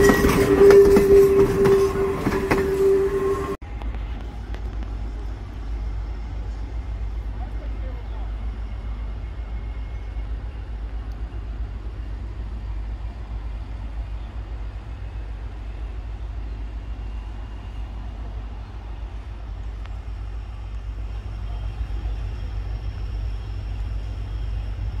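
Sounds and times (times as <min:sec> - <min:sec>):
diesel locomotives rumbling: 0:00.0 - 0:25.0.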